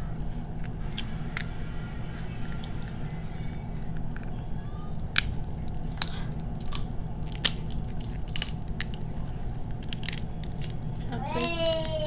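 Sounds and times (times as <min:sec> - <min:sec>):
steady low hum: 0:00.0 - 0:12.0
crab shell cracking and crunching: 0:00.2 - 0:12.0.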